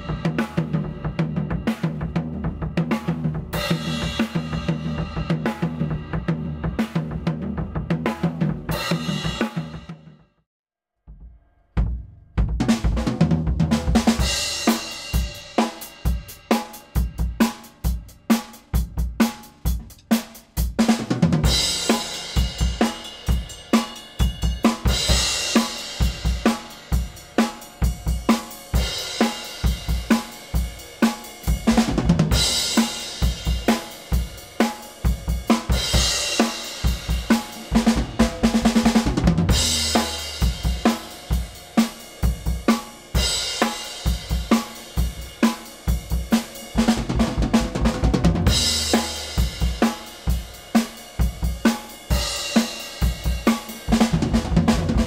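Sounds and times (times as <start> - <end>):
drum kit groove: 0.0 - 10.2, 11.1 - 55.0.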